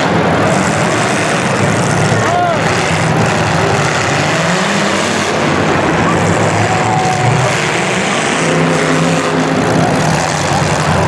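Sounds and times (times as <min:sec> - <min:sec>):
racing vehicle engines: 0:00.0 - 0:11.0.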